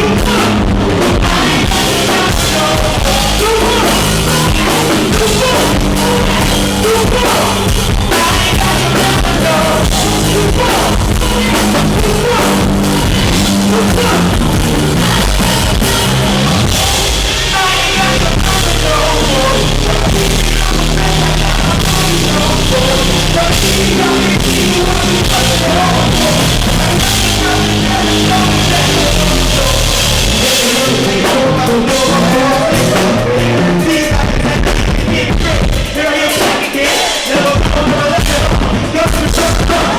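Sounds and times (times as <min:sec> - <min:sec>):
bass guitar: 0:00.0 - 0:36.0
drum kit: 0:00.0 - 0:39.9
live band music: 0:00.0 - 0:39.9
person singing: 0:00.0 - 0:39.9.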